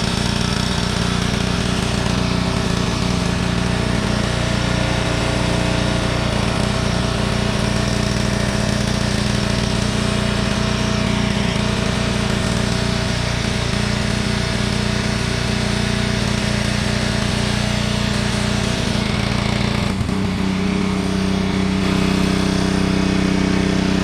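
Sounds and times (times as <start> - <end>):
pressure washer engine hum: 0.0 - 24.0.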